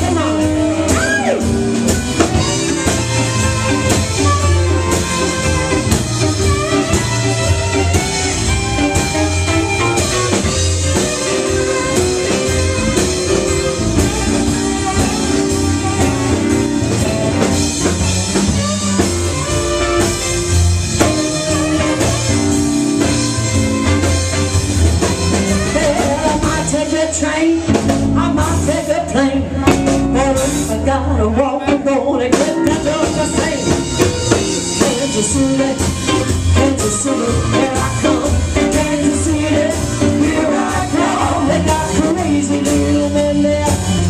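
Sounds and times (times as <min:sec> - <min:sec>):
saxophone solo: 0:00.0 - 0:27.4, 0:32.5 - 0:44.0
blues-rock band playing: 0:00.0 - 0:44.0.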